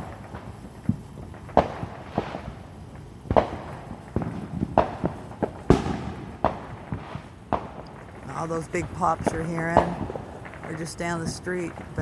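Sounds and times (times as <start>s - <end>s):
distant fireworks popping: 0.0s - 12.0s.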